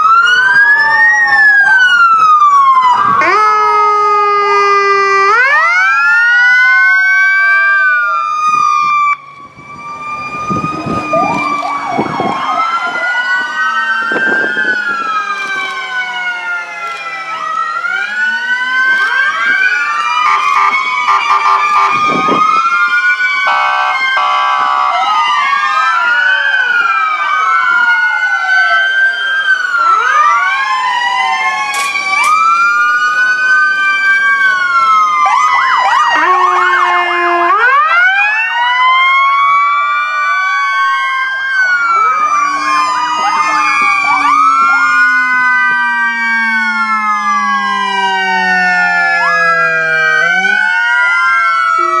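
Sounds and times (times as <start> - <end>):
rapid siren warble: 0.0 - 52.0
sirens wailing: 0.0 - 52.0.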